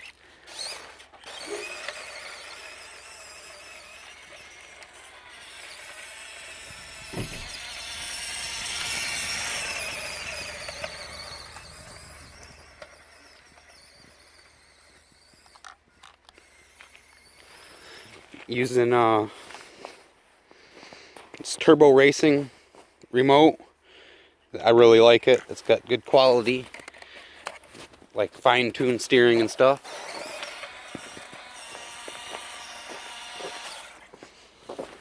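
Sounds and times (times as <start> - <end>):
toy truck motor whining: 0.0 - 19.9, 26.1 - 35.0.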